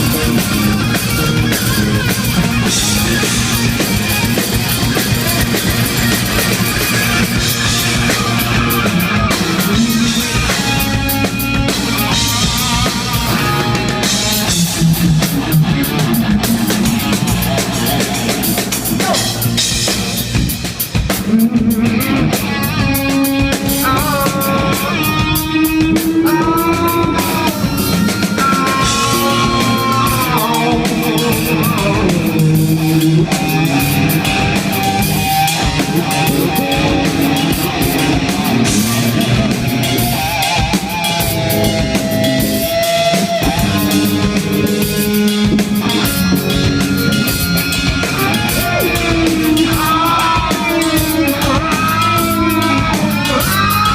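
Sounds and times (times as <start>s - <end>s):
driving drum kit: 0.0s - 53.9s
electric guitar lead: 0.0s - 53.9s.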